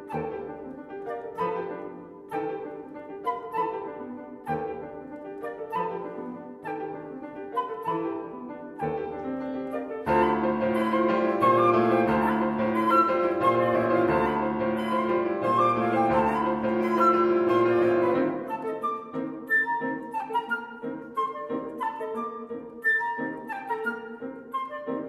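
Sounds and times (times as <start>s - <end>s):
flute: 0.0s - 25.0s
grand piano: 0.0s - 25.0s.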